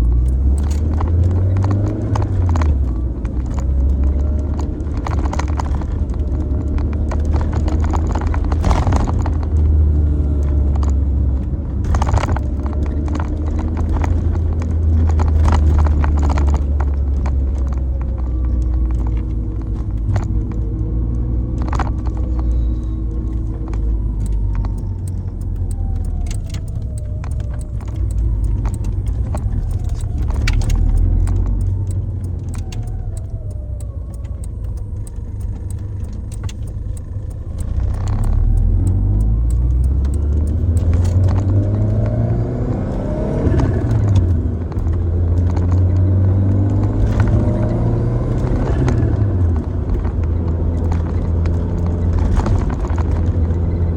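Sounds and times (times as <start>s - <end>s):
car engine and road rumble: 0.0s - 53.9s
clicks and rattles: 0.0s - 53.9s.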